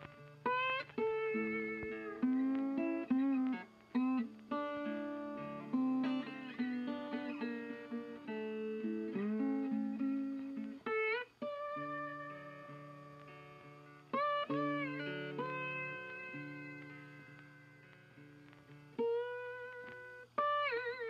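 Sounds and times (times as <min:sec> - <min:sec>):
plucked guitar notes: 0:00.0 - 0:21.0.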